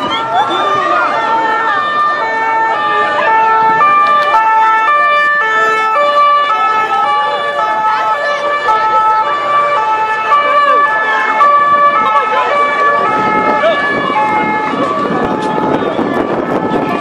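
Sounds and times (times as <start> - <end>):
two-tone sirens: 0.0 - 17.0.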